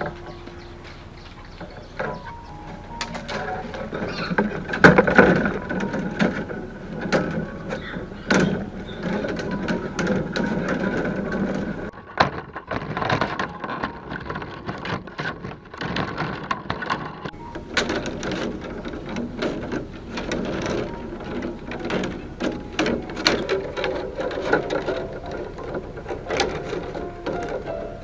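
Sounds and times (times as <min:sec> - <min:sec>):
bamboo strips clicking and tapping: 0:00.0 - 0:28.0
bamboo strips rustling and scraping: 0:00.0 - 0:28.0.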